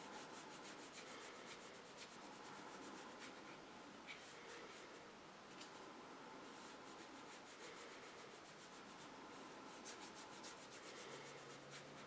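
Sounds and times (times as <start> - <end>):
brush rubbing on paper: 0.0 - 5.0, 6.4 - 12.0.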